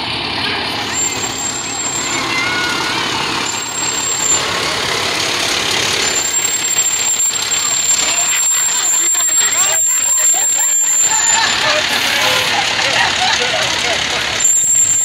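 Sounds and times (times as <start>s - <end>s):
diesel engine passing: 0.0s - 15.0s.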